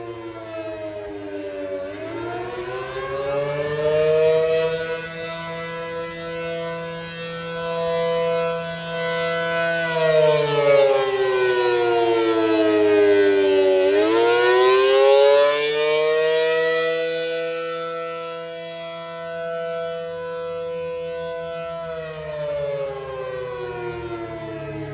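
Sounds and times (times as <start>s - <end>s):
two-tone warning siren: 0.0s - 24.9s.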